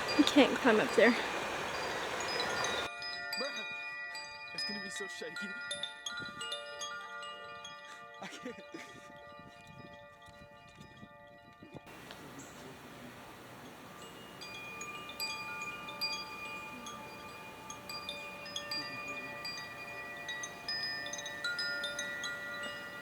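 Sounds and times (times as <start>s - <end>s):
chimes ringing: 0.0s - 9.9s, 11.9s - 23.0s.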